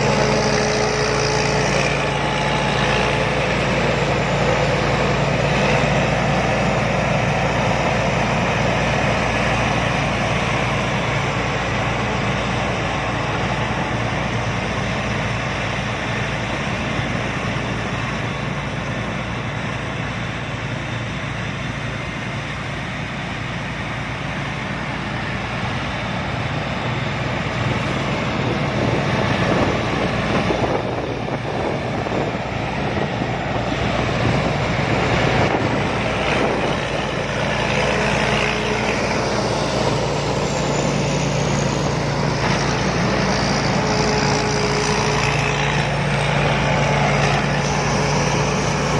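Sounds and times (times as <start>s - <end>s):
combine harvester engine drone: 0.0s - 48.9s
machinery noise: 0.0s - 48.9s.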